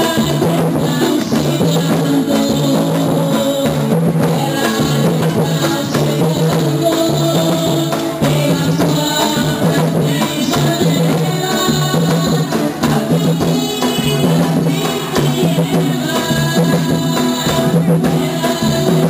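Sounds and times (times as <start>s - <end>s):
drum group playing: 0.0s - 19.0s.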